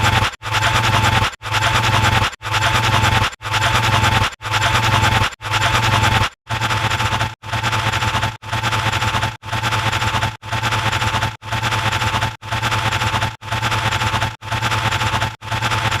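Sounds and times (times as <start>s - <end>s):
harsh distorted sound effect: 0.0s - 16.0s.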